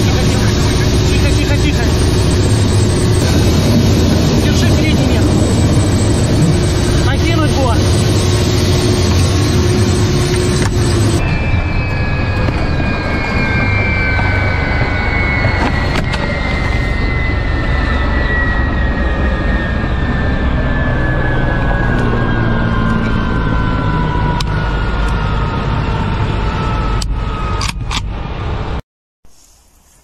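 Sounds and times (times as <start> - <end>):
helicopter engine winding down: 0.0 - 28.8.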